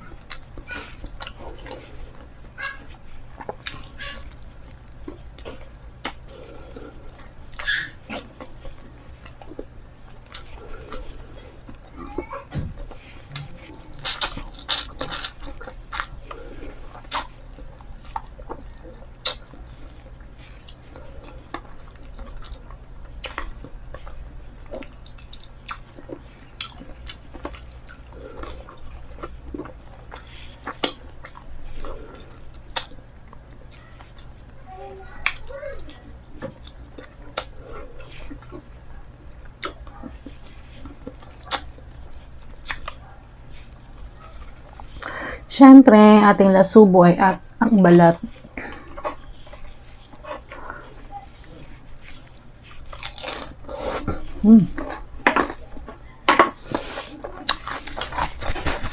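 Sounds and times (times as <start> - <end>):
chewing crispy chicken: 0.0 - 45.3, 47.4 - 58.9.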